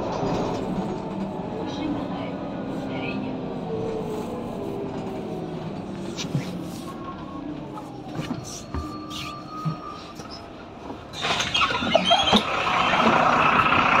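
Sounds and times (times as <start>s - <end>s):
clicks and knocks inside bus: 0.0s - 2.0s, 4.7s - 14.0s.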